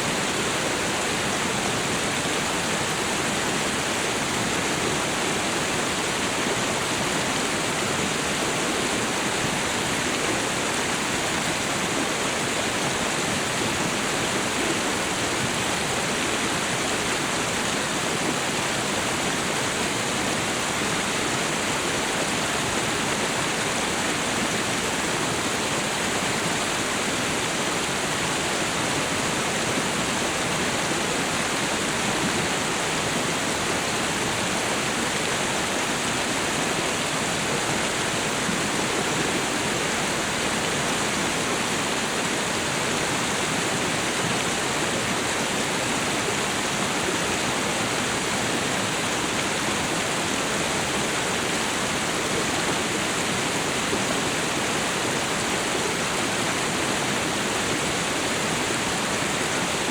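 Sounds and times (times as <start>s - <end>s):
waterfall and river rushing: 0.0s - 59.9s.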